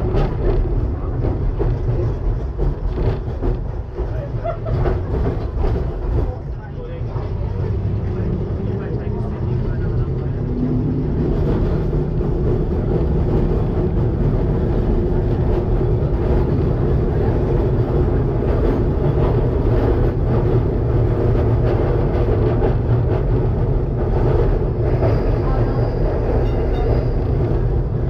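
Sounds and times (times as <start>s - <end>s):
tram wheels rumbling on rails: 0.0s - 28.0s.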